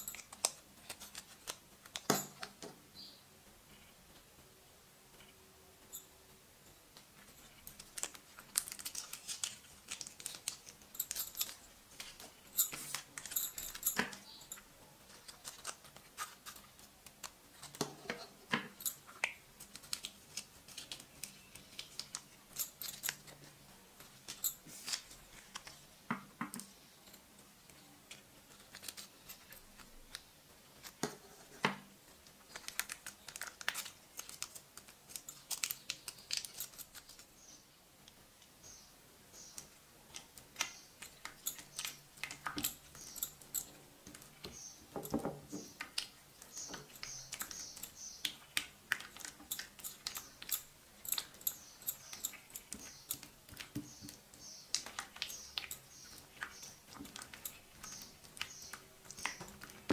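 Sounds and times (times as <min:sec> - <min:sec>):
plastic tube clicking and crinkling: 0:06.9 - 0:14.4, 0:15.1 - 0:26.8, 0:27.6 - 0:37.3, 0:39.4 - 0:59.9.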